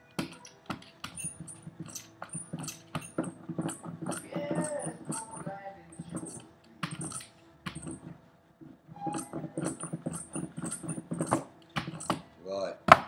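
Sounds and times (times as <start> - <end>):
ink roller rolling strokes: 0.0 - 12.3.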